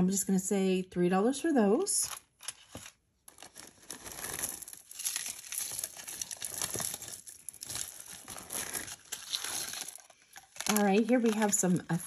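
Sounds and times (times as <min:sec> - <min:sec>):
packaging crinkling: 0:02.2 - 0:12.0.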